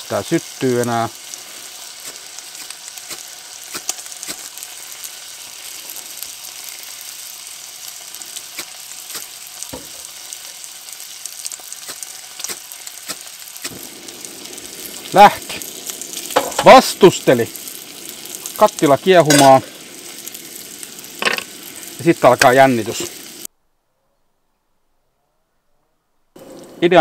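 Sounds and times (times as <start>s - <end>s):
bacon and bread sizzling in pan: 0.0s - 23.5s, 26.4s - 27.0s.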